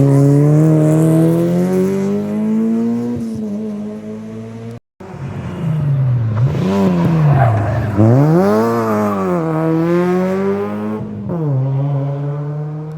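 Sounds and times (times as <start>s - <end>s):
rally car engine revving: 0.0s - 12.9s.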